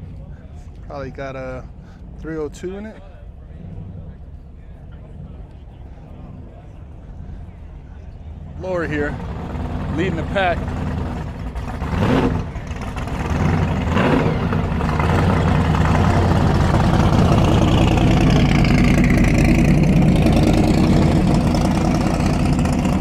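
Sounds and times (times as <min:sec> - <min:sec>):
car engine revving and idling: 0:00.0 - 0:23.0.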